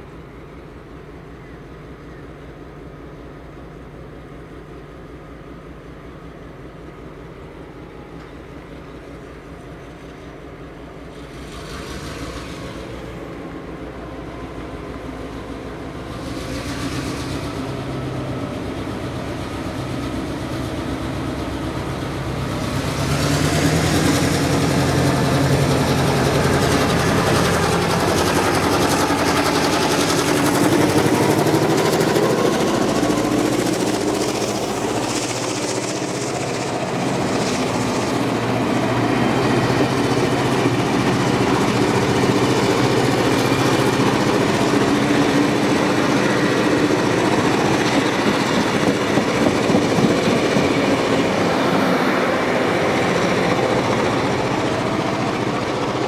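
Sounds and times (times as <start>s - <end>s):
diesel locomotive engine passing: 0.0s - 56.0s.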